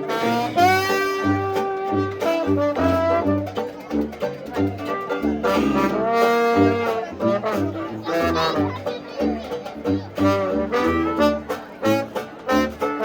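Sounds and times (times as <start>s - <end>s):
jazz band playing: 0.0s - 13.0s
tuba bass line: 0.0s - 13.0s.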